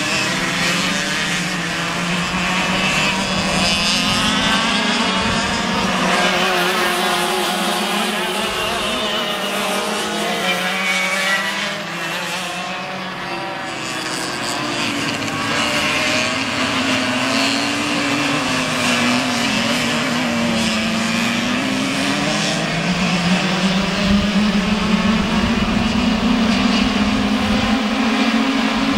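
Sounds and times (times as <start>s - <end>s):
kart engines passing: 0.0s - 28.9s.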